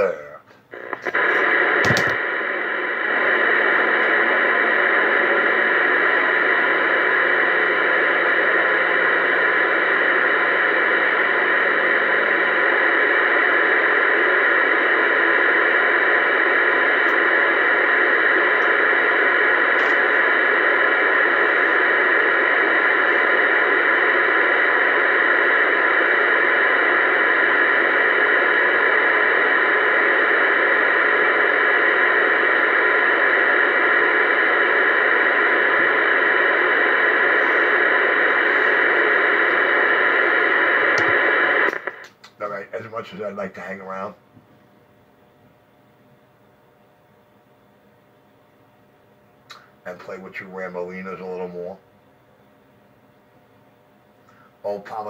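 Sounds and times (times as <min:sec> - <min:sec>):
radio static hiss: 0:00.0 - 0:44.2, 0:49.4 - 0:51.8, 0:54.1 - 0:55.0.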